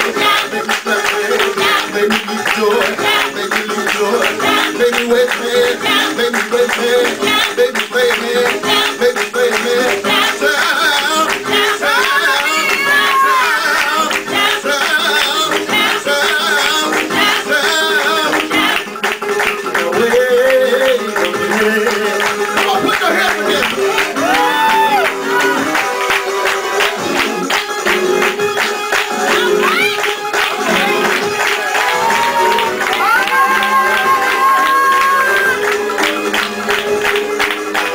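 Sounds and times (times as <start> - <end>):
person singing: 0.0 - 27.4, 29.2 - 37.9
guitar: 0.0 - 37.9.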